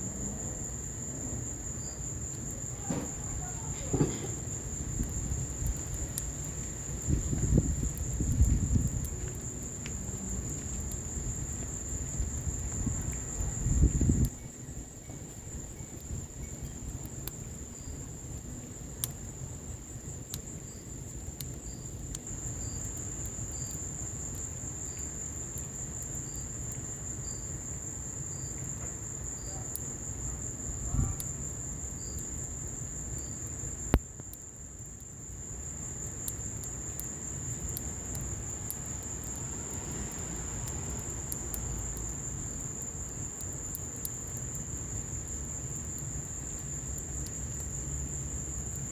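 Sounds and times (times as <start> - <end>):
high-pitched insect trill: 0.1 - 48.9
wood fire crackling and popping: 0.6 - 48.9.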